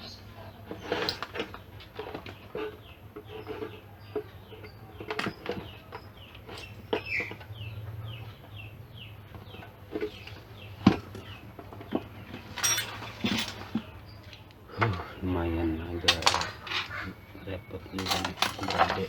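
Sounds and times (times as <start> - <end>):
falling bird chirps: 0.0 - 19.0.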